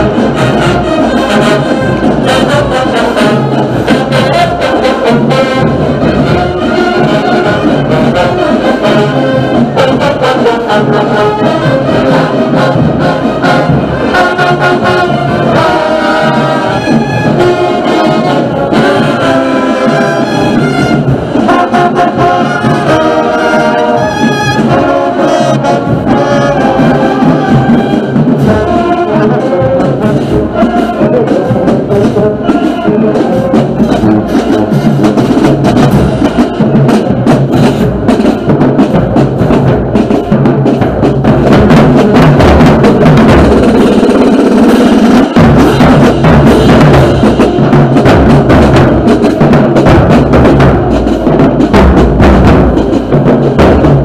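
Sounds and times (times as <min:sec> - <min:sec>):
drums: 0:00.0 - 0:54.0
marching band playing: 0:00.0 - 0:54.0
trumpets and trombones: 0:00.0 - 0:54.0.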